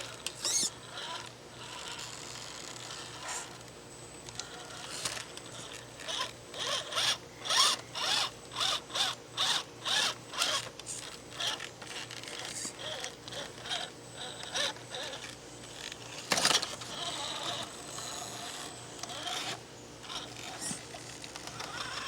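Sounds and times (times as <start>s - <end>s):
mechanical ratcheting: 0.0s - 3.2s, 4.4s - 22.0s.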